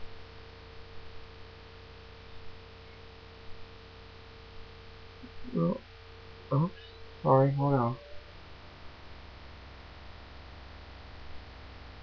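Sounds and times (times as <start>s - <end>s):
low electrical hum: 0.0s - 12.0s
recording hiss: 0.0s - 12.0s.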